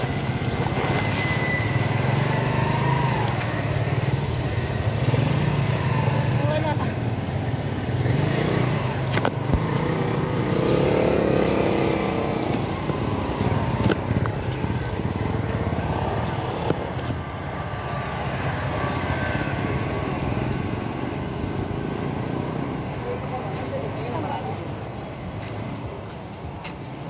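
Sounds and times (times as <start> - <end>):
motorcycles passing: 0.0 - 27.0
street traffic: 0.0 - 27.0.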